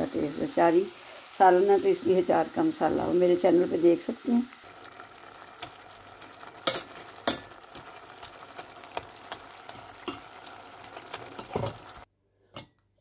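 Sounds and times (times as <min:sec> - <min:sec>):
soft sizzle of frying: 0:00.0 - 0:13.0.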